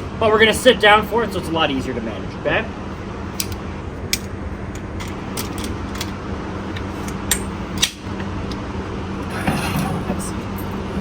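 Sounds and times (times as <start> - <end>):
low ventilation hum: 0.0 - 11.0.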